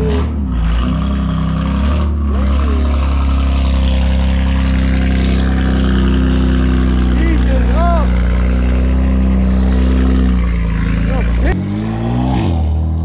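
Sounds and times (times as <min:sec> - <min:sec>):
car engine idling loudly: 0:00.0 - 0:11.8.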